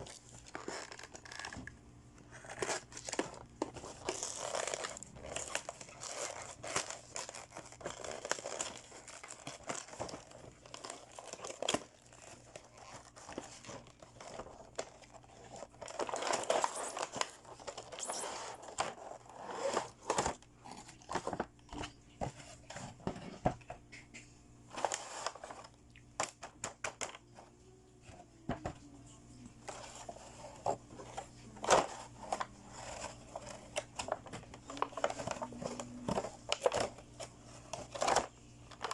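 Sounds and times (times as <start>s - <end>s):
plastic packaging crinkling and tearing: 0.0s - 22.0s, 24.7s - 27.3s, 29.6s - 38.9s.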